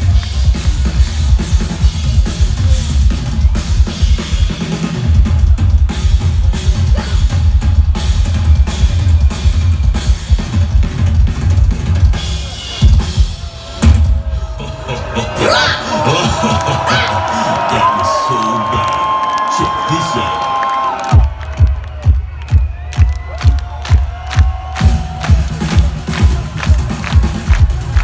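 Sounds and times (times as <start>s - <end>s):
drum kit playing fast heavy beat: 0.0s - 17.7s, 21.1s - 28.0s.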